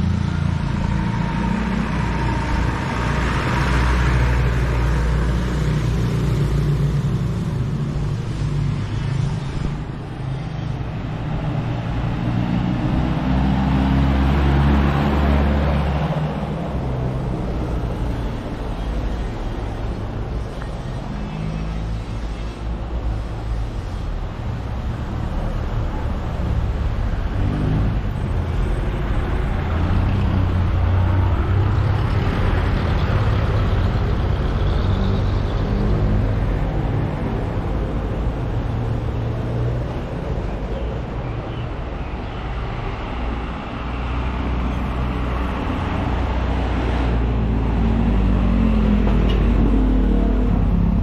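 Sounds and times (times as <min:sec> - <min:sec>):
traffic rumble: 0:00.0 - 0:51.0.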